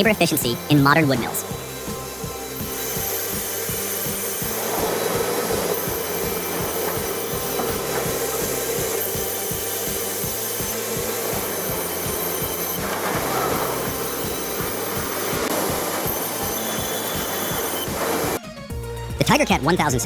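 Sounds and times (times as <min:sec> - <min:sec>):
band saw rasping through log: 0:00.0 - 0:18.7
background music beat: 0:00.0 - 0:20.0.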